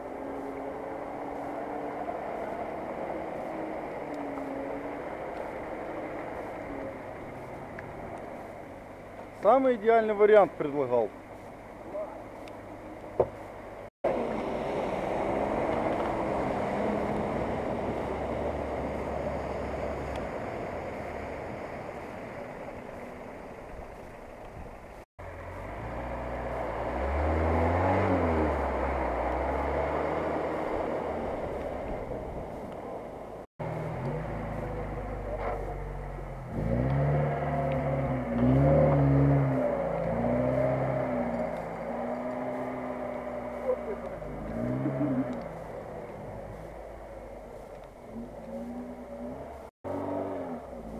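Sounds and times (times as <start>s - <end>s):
car engine running: 0.0s - 50.9s
water splashing from wheels: 0.0s - 50.9s.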